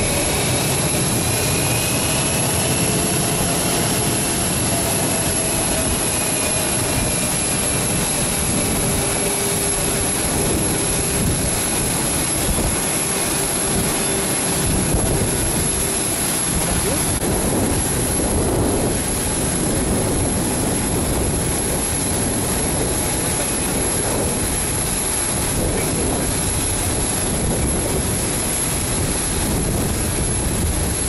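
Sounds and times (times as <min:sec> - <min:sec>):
jet engines at taxi power: 0:00.0 - 0:31.0.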